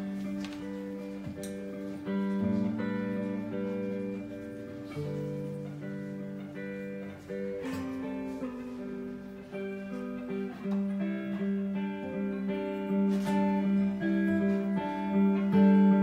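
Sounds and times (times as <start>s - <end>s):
acoustic guitar: 0.0s - 16.0s
electric guitar: 0.0s - 16.0s.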